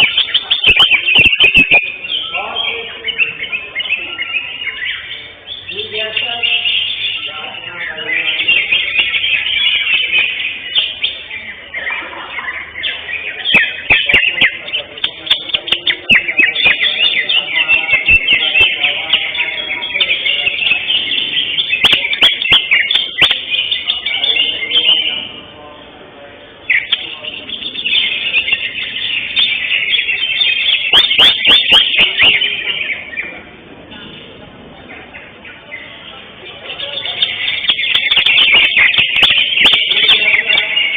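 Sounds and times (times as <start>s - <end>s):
bird singing fast chirps and trills: 0.0s - 25.6s, 26.5s - 33.5s, 35.0s - 40.9s.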